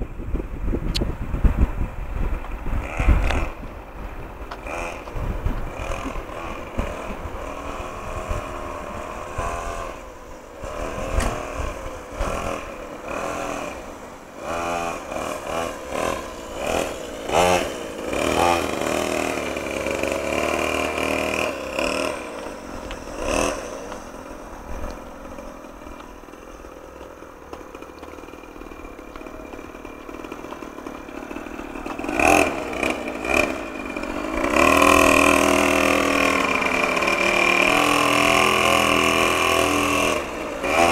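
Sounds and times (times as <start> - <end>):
motocross bike engine revving: 1.6 - 40.9.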